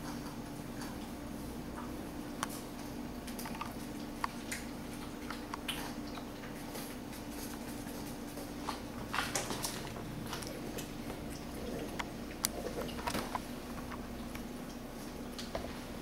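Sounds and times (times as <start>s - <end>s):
dog chewing and lapping food: 0.0s - 16.0s
steady low hum: 0.0s - 16.0s.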